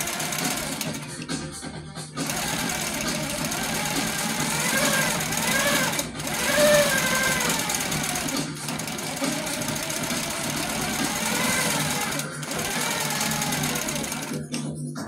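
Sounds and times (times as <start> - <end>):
quilting machine motor whine: 0.0 - 1.0, 2.2 - 14.4.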